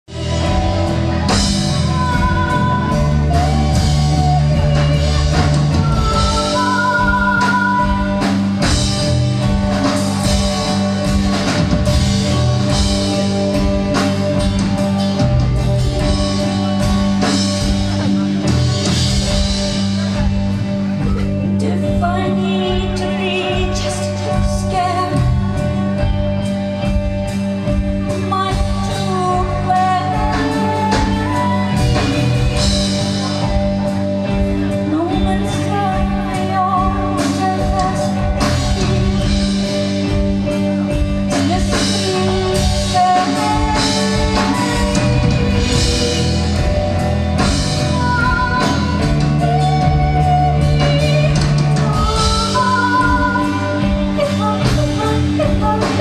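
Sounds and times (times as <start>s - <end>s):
guitar chords: 0.1s - 56.0s
person singing: 0.1s - 56.0s.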